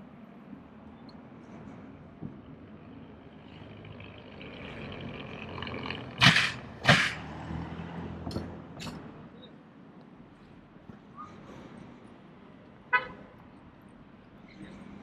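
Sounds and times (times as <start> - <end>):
car engine and tyres: 0.0 - 15.0.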